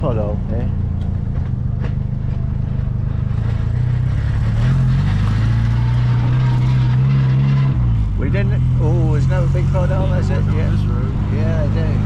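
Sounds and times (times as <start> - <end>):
car engine running: 0.0 - 12.0
road and wind noise: 0.0 - 12.0.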